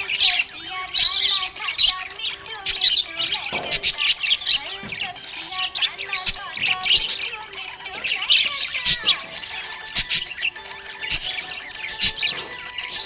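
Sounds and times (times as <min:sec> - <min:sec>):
parrots chirping and chattering: 0:00.0 - 0:13.0.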